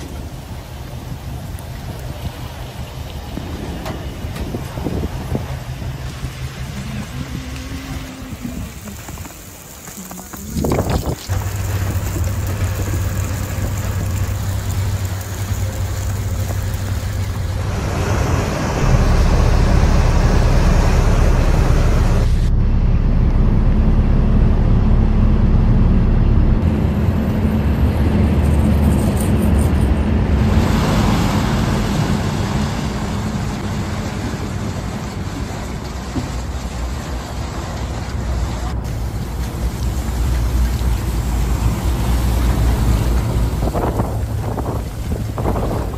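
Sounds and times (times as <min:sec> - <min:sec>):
road traffic rumble: 0:00.0 - 0:45.9.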